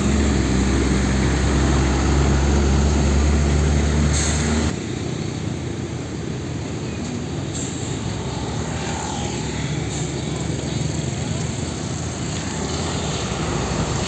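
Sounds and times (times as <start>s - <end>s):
truck diesel engine passing: 0.0s - 4.8s, 5.4s - 14.0s
road traffic noise: 0.0s - 14.0s.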